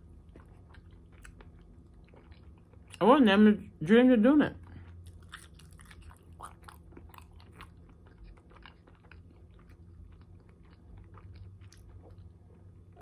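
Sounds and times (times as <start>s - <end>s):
chewing a french fry: 0.0s - 3.0s, 4.6s - 13.0s.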